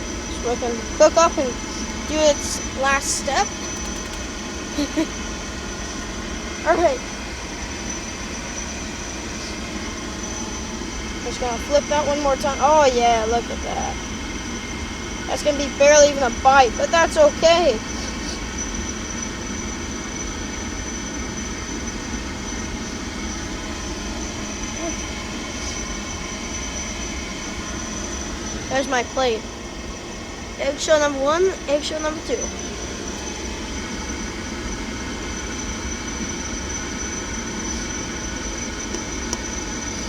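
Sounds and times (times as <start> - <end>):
faint high whine: 0.0 - 40.0
pool heater drone: 0.0 - 40.0.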